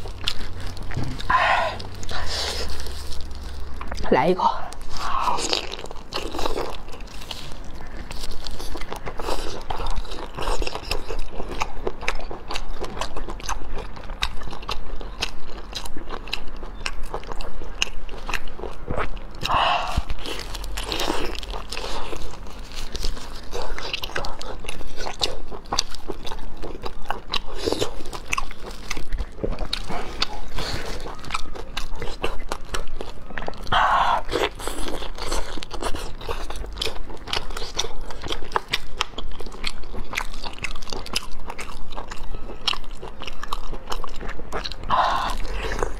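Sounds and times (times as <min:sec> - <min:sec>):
wet chewing and biting: 0:00.0 - 0:45.9.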